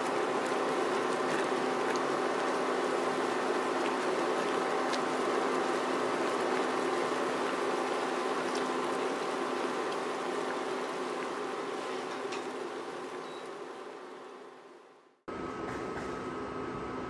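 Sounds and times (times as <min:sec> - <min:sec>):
sauce bubbling and sizzling: 0:00.0 - 0:14.6.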